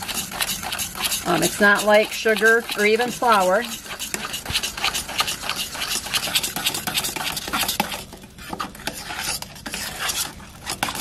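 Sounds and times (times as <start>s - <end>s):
wire whisk scraping metal saucepan: 0.0s - 11.0s.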